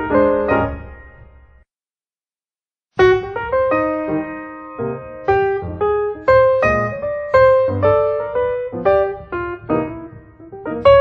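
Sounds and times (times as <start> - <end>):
piano music: 0.0 - 1.7, 3.0 - 11.0.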